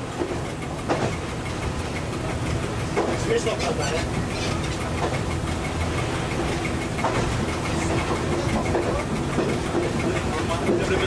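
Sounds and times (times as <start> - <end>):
railcar diesel engine running: 0.0 - 11.0
wheel-on-rail noise: 0.0 - 11.0.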